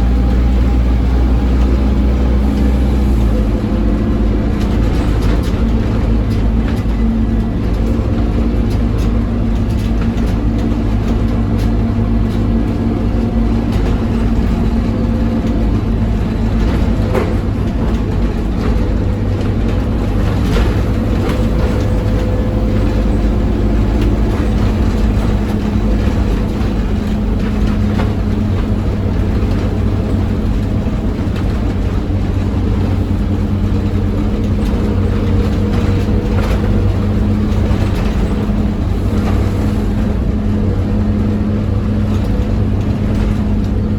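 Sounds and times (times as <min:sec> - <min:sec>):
bus diesel engine at full throttle: 0:00.0 - 0:43.9.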